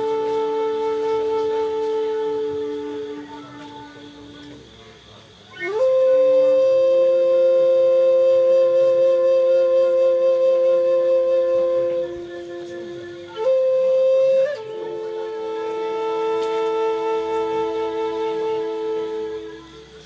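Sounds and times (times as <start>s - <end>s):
flute playing long notes: 0.0s - 20.0s.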